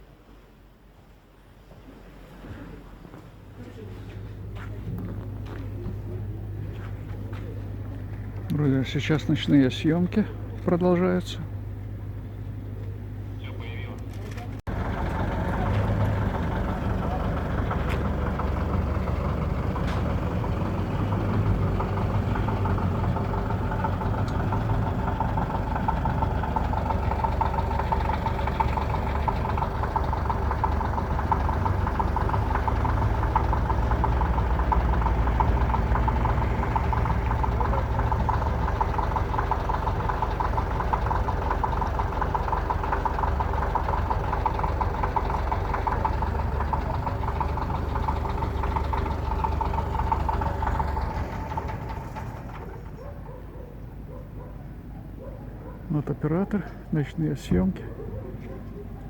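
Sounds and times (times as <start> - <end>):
engine idling: 3.4 - 59.0.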